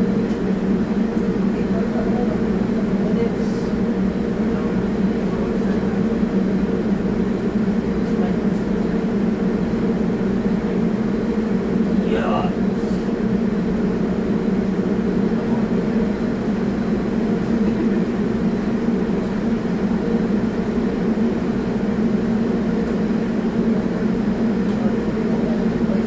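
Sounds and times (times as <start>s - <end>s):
subway train humming drone: 0.0s - 26.0s.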